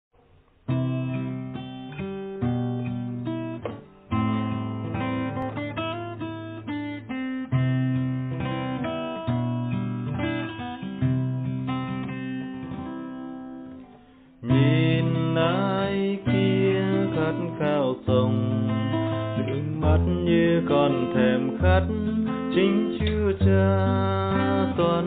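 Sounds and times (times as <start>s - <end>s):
acoustic guitar strumming chords: 0.6s - 25.0s.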